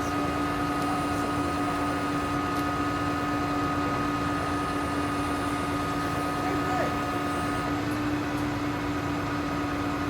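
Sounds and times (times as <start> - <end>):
machine drone humming: 0.0 - 10.0.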